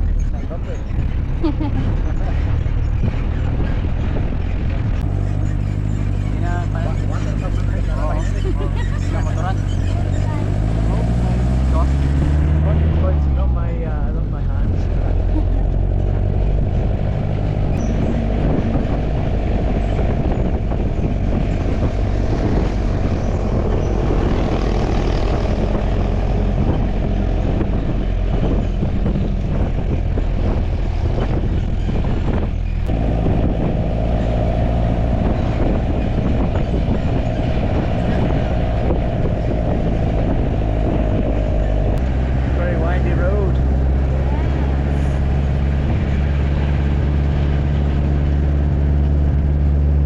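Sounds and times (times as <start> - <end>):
truck engine running: 0.0 - 50.0
wind rushing over microphone: 0.0 - 50.0.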